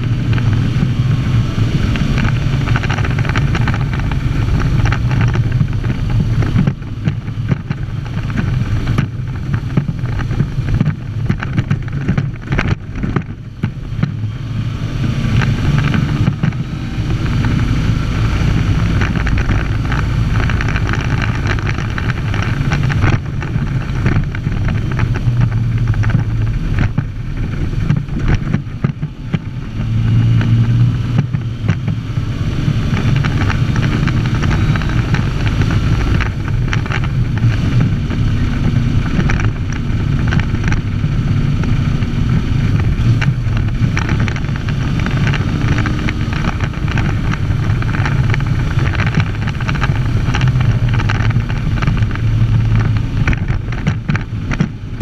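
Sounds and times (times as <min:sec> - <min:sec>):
cab rattling: 0:00.0 - 0:55.0
engine running under load: 0:00.0 - 0:55.0.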